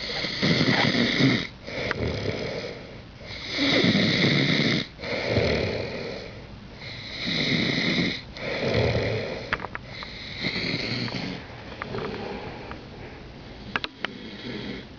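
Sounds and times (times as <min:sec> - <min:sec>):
person snoring: 0:00.0 - 0:12.7, 0:14.0 - 0:14.9.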